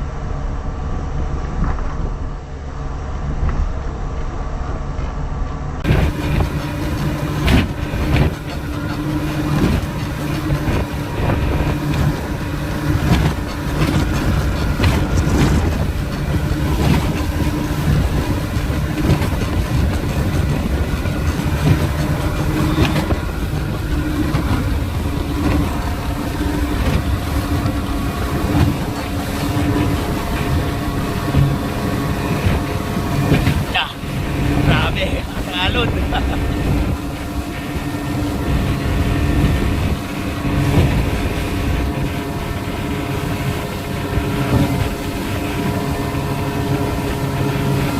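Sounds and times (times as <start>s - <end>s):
hull slamming on waves: 0.0s - 47.9s
speedboat engine running: 0.0s - 47.9s.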